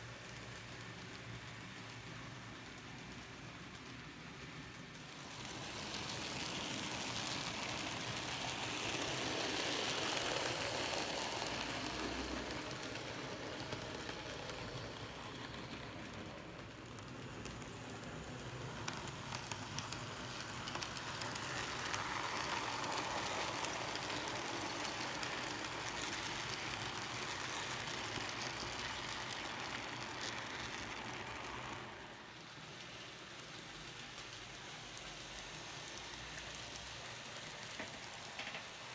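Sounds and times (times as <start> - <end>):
model train whirring on track: 0.0 - 38.9.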